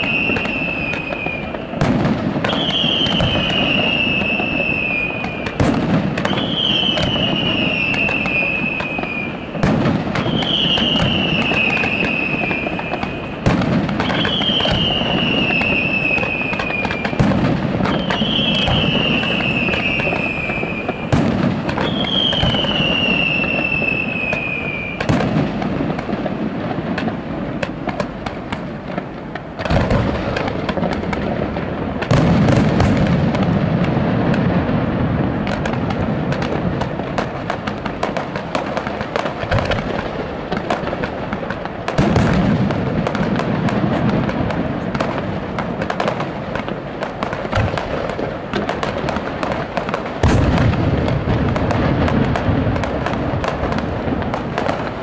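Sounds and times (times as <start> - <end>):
falling firework whistles: 0.0 - 55.0
fireworks crackle and bangs: 0.0 - 55.0.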